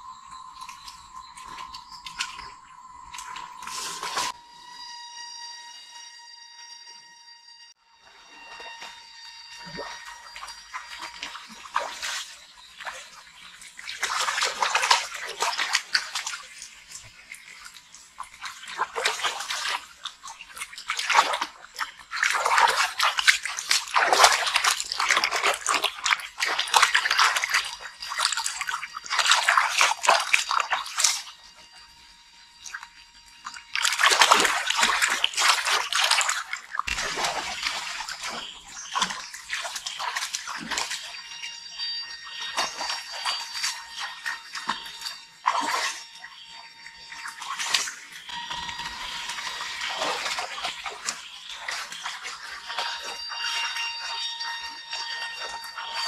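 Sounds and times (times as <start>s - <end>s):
water splashing and sloshing: 0.0s - 4.4s, 8.1s - 56.0s.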